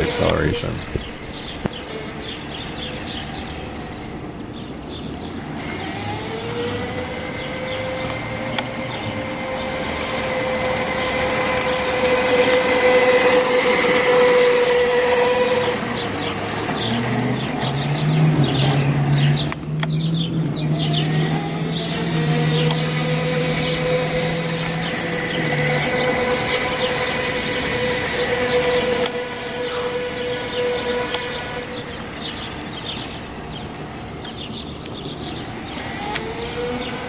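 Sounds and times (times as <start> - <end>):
electric go-kart motor whining: 0.0 - 37.0.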